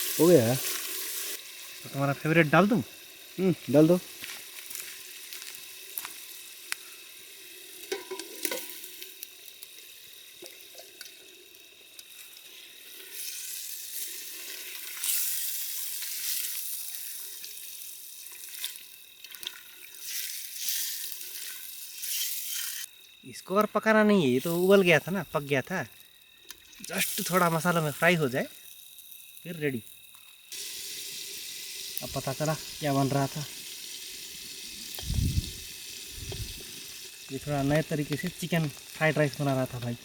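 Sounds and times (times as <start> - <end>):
spices sizzling in a pan: 0.0 - 23.4, 24.1 - 40.0.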